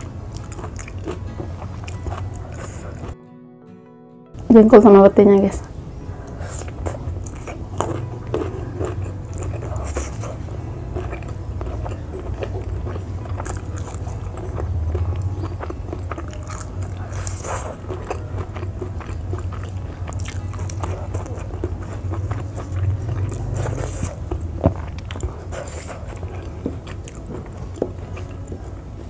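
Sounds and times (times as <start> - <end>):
chewing crunchy vegetables: 0.0 - 3.2, 5.5 - 29.0.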